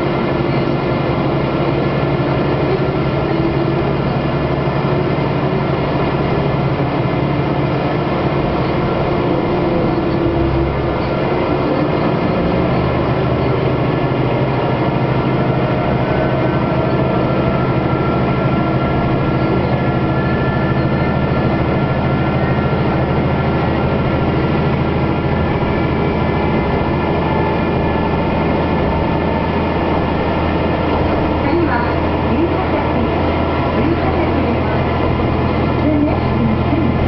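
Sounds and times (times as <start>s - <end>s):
diesel engine hum: 0.0s - 37.0s
wheels rumbling on rails: 0.0s - 37.0s.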